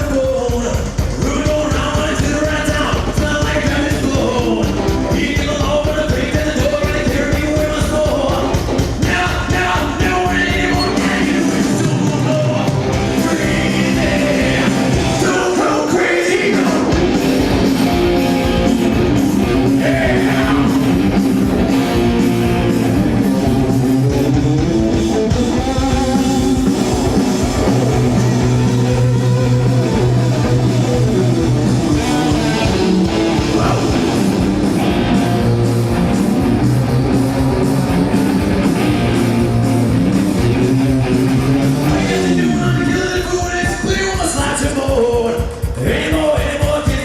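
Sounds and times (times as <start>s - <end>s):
hard rock band playing live: 0.0s - 47.0s.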